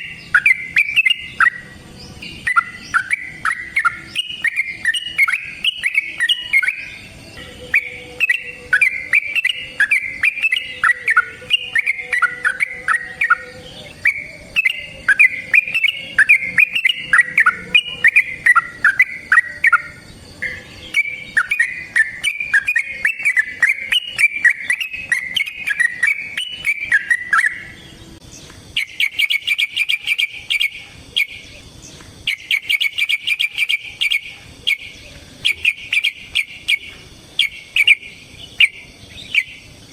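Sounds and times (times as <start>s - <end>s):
bulbul singing warbled phrases: 0.0s - 39.9s.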